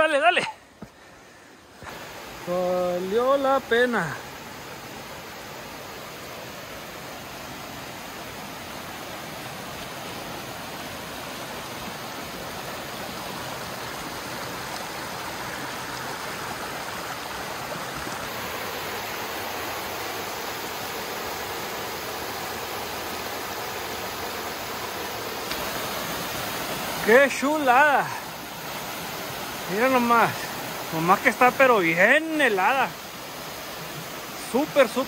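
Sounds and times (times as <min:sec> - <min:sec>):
water rushing over rock: 0:01.6 - 0:35.0.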